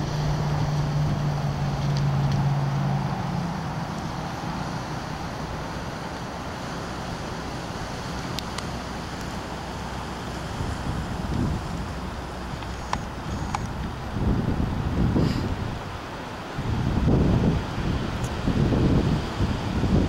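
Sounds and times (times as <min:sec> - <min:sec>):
steady low hum: 0:00.0 - 0:20.0
wind noise on microphone: 0:00.0 - 0:20.0.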